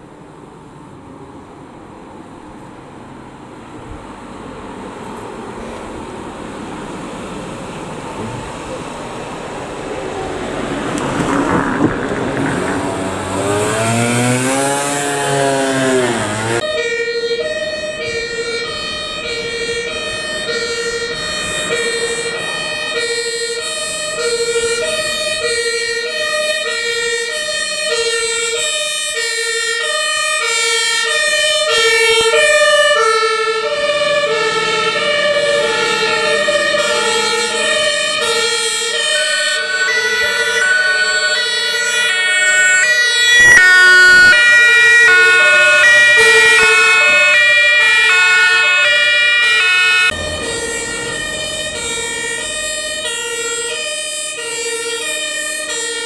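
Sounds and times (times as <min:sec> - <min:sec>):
truck engines: 0:00.0 - 0:56.0
two-tone sirens: 0:00.0 - 0:56.0
loud high siren: 0:03.7 - 0:56.0.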